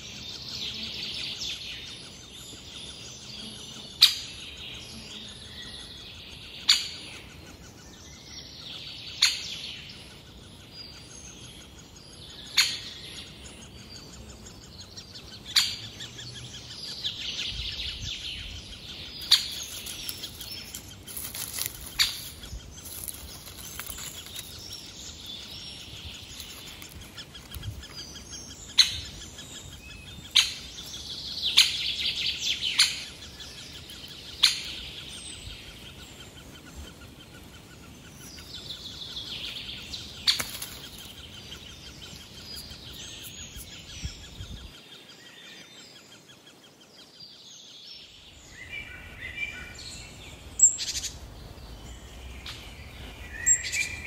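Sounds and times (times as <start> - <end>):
background birdsong chorus: 0.0 - 54.0.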